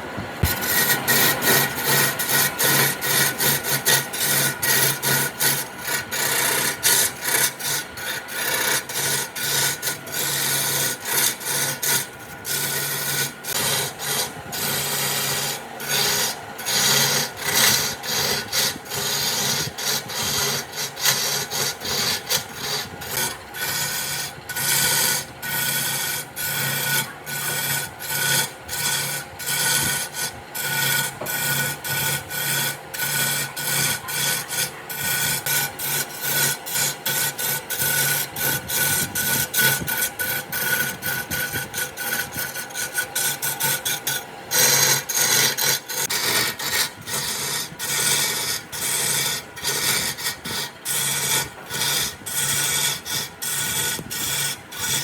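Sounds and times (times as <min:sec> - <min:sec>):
hand tool rasping wood: 0:00.4 - 0:55.0.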